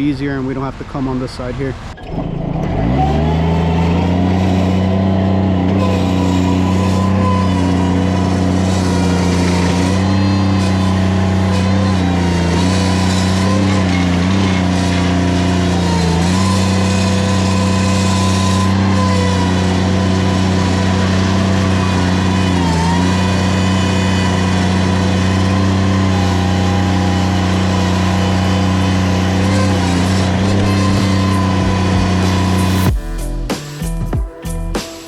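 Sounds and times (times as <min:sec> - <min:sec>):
small engine at high revs: 0:02.1 - 0:33.0.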